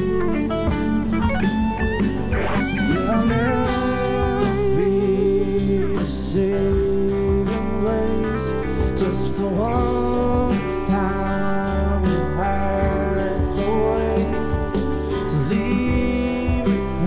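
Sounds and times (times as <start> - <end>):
live band playing: 0.0 - 17.0
sliding bending guitar melody: 0.0 - 17.0
steady drum beat: 0.0 - 17.0.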